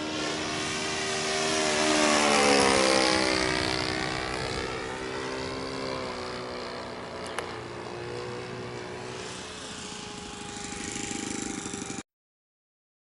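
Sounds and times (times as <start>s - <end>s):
model plane engine drone: 0.0s - 12.0s.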